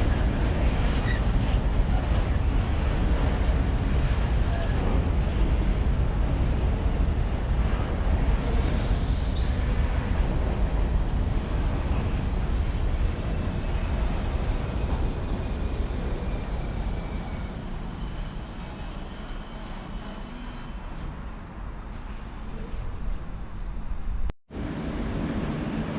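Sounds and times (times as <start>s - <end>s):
train rumbling through station: 0.0s - 25.9s.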